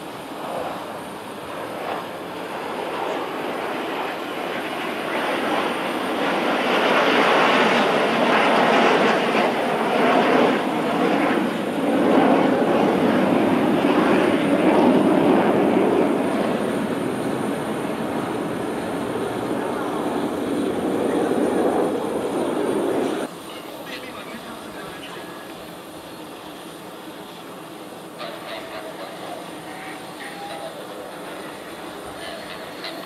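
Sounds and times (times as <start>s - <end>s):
fighter jets flying overhead: 0.0s - 33.0s.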